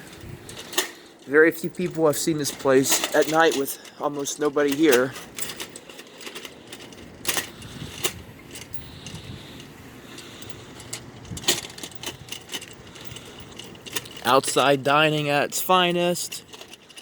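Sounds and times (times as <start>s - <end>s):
faint steady background: 0.0s - 17.0s
light metallic jingling: 0.0s - 17.0s.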